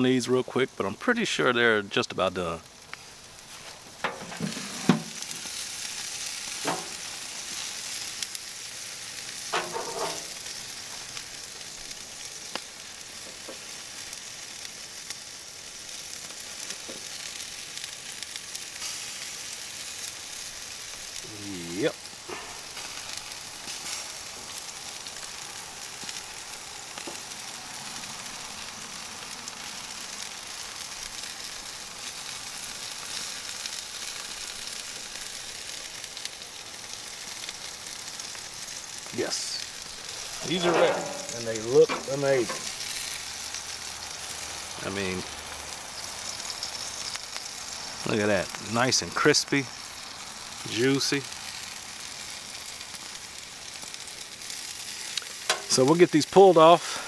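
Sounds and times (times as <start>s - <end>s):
meat sizzling on a grill: 0.0s - 57.0s.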